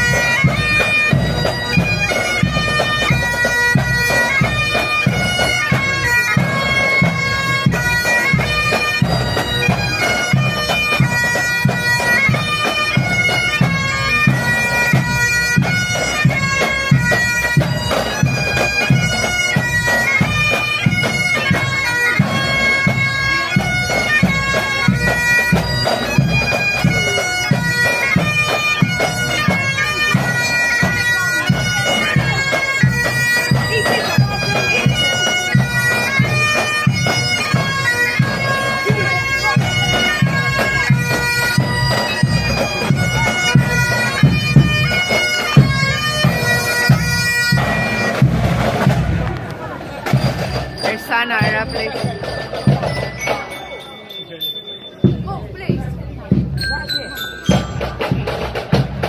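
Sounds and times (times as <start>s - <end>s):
bagpipes playing a march: 0.0s - 54.1s, 55.0s - 59.0s.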